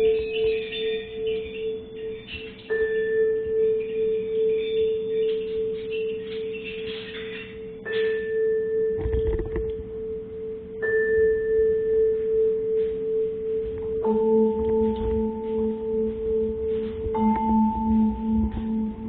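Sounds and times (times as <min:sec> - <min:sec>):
bell-like metal percussion: 0:00.0 - 0:19.0
steady held tone: 0:00.0 - 0:19.0.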